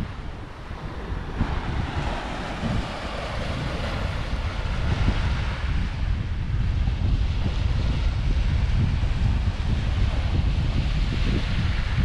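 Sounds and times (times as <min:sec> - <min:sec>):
small waves washing on sand: 0:00.0 - 0:12.0
wind buffeting microphone: 0:00.0 - 0:12.0.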